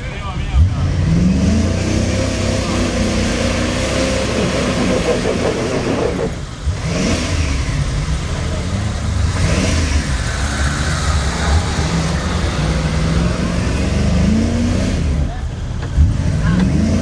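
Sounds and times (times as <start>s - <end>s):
engine revving hard: 0.5s - 15.4s, 16.0s - 17.0s.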